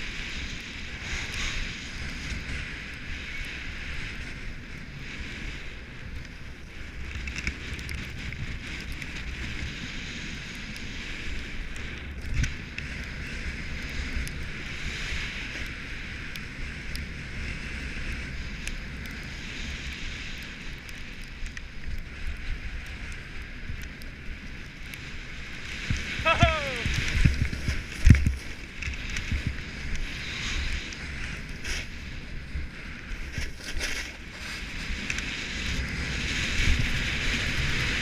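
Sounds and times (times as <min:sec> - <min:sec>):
skis hissing over snow: 0:00.0 - 0:07.0, 0:07.6 - 0:38.0
wind buffeting microphone: 0:00.0 - 0:38.0.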